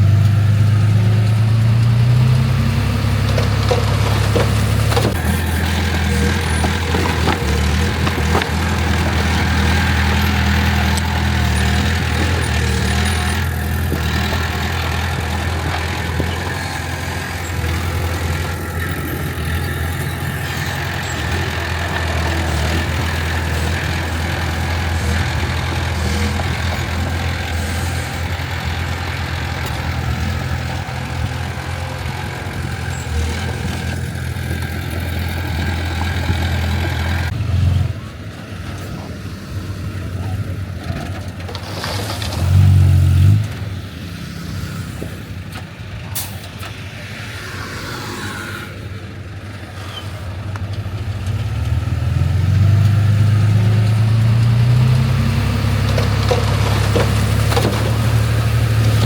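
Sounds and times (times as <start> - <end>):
engine revving: 0.0 - 38.2, 38.8 - 59.0
heavy diesel engine running: 0.0 - 59.0.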